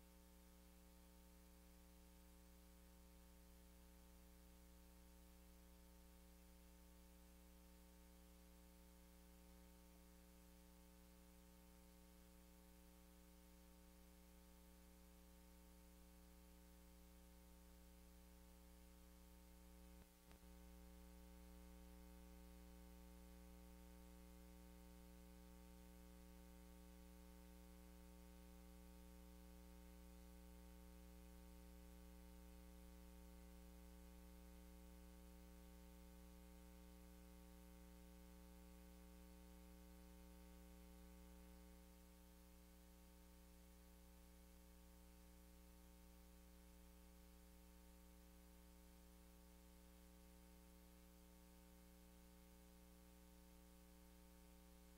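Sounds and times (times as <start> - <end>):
faint hiss: 0.0 - 54.9
steady electrical hum: 0.0 - 54.9.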